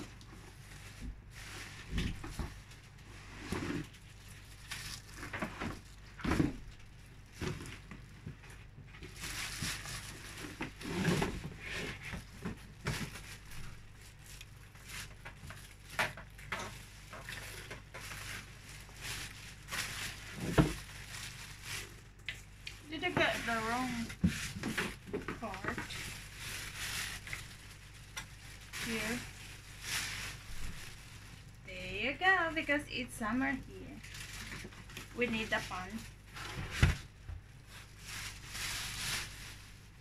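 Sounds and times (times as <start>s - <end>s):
plastic bag crinkling: 0.0s - 40.0s.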